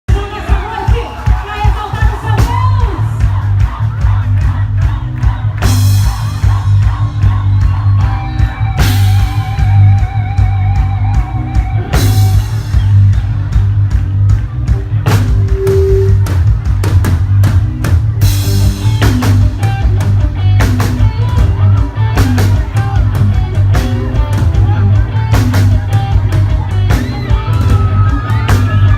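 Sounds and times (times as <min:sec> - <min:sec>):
gospel band playing: 0:00.1 - 0:28.9.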